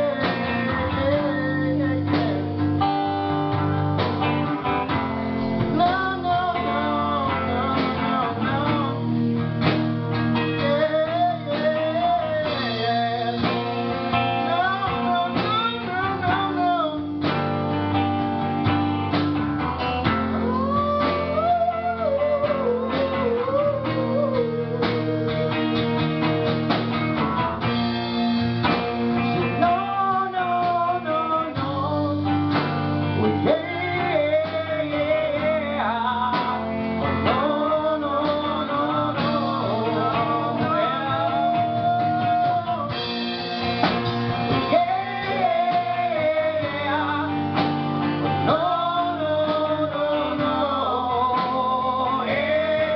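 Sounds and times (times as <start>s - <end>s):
man singing: 0.0s - 17.5s, 20.1s - 26.2s, 29.1s - 52.9s
acoustic guitar strumming: 0.0s - 52.9s.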